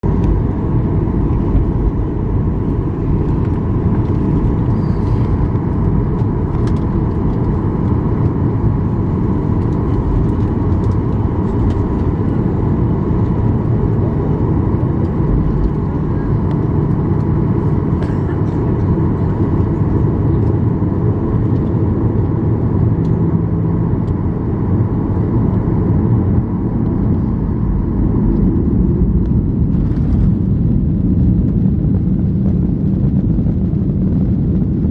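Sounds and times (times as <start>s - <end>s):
aircraft cabin engine rumble: 0.0s - 34.9s.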